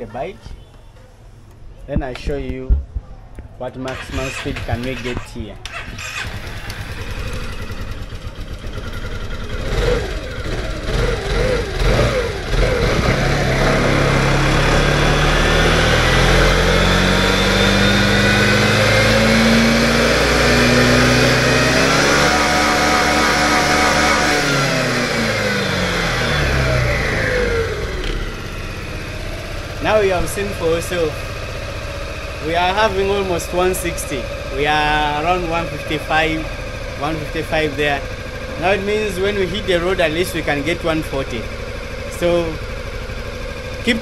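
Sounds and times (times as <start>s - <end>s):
scooter engine revving: 3.9s - 44.0s.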